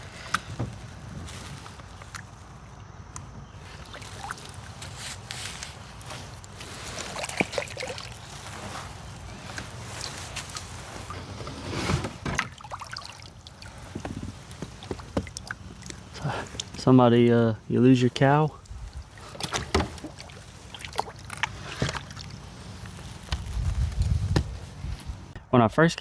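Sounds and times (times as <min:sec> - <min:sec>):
water trickling off paddle: 0:00.0 - 0:25.4
paddle splashing in water: 0:03.4 - 0:17.3, 0:18.2 - 0:25.4.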